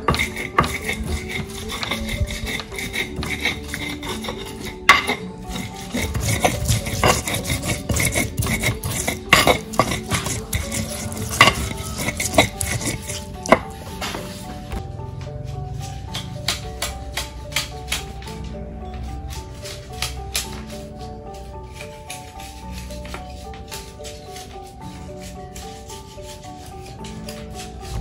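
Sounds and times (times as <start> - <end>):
stone pestle grinding in mortar: 0.0 - 14.8, 15.8 - 18.3, 18.9 - 28.0
soft background music: 0.0 - 28.0.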